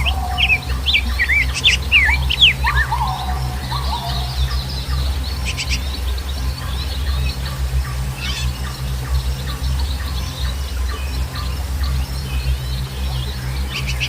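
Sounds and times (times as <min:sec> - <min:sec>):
birds chirping and whistling: 0:00.0 - 0:14.0
steady low rumble: 0:00.0 - 0:14.0.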